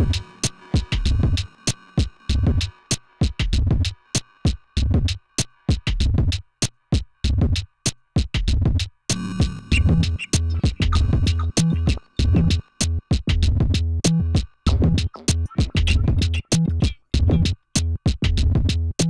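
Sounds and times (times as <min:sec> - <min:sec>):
drum machine beat: 0:00.0 - 0:19.0.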